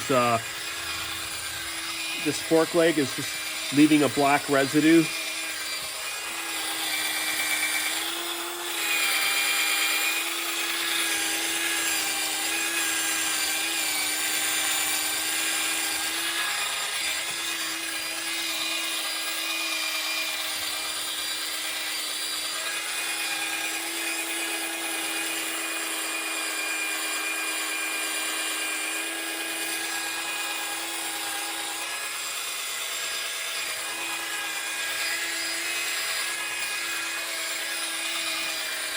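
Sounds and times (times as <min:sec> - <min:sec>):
power tool motor hum: 0:00.0 - 0:38.9.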